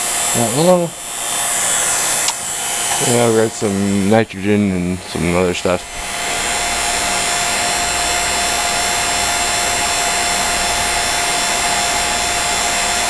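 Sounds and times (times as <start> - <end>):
vacuum pump whirring: 0.0 - 13.0.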